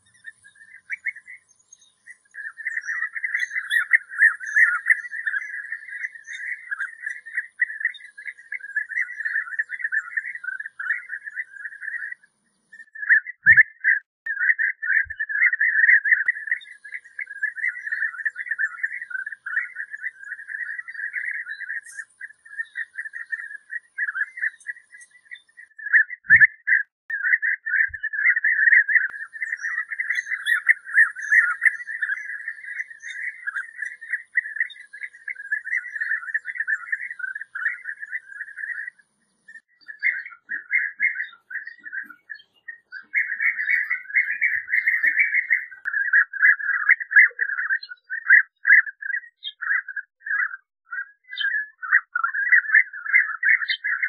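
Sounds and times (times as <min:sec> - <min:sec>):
bird rolling chirping calls: 0:00.0 - 0:54.0.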